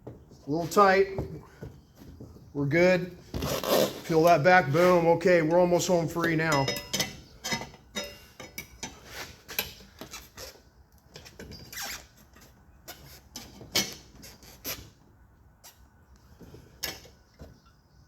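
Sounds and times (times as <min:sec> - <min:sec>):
tyre levers clinking on rim: 0:00.0 - 0:18.0.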